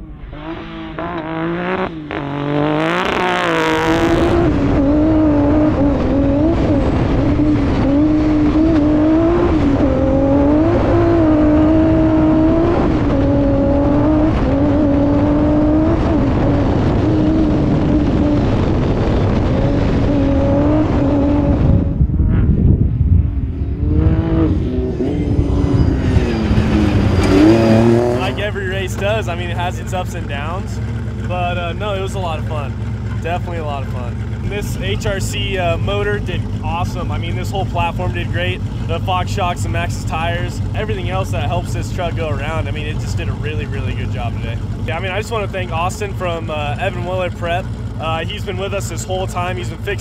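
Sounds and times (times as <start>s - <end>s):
truck engine revving hard: 0.0s - 50.0s.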